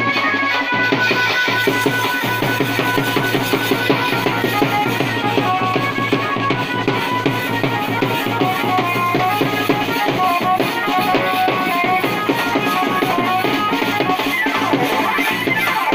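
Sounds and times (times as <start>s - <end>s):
wedding band music with drums: 0.0s - 15.9s.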